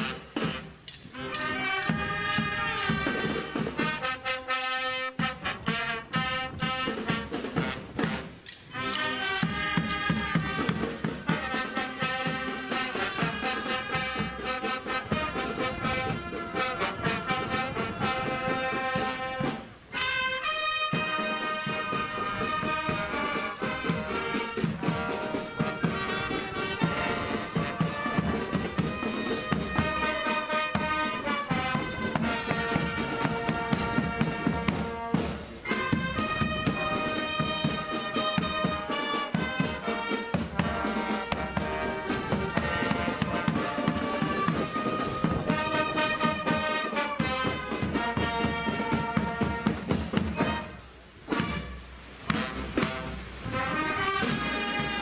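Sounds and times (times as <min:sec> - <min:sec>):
marching brass band: 0:00.0 - 0:55.0
steady drum beat: 0:00.0 - 0:55.0.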